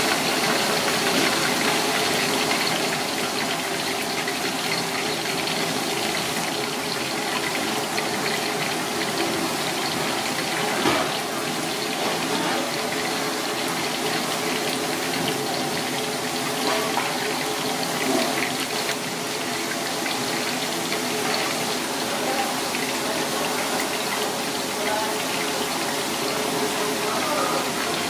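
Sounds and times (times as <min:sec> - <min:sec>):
hot oil sizzling: 0:00.0 - 0:28.0.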